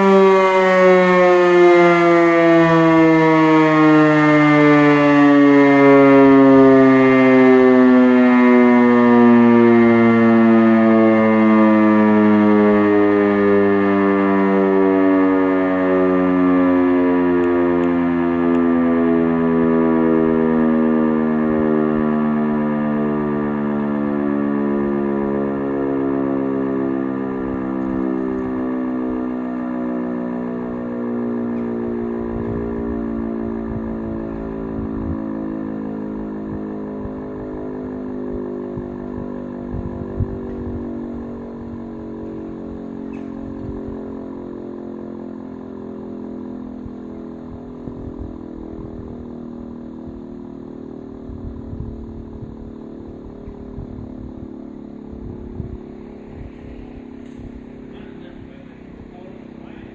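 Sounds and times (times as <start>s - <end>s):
rotary siren winding down: 0.0s - 59.9s.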